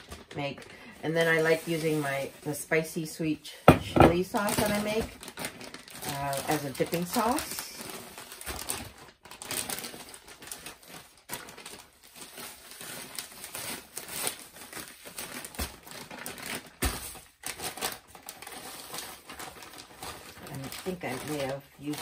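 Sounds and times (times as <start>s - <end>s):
plastic bag crinkling: 0.0s - 22.0s.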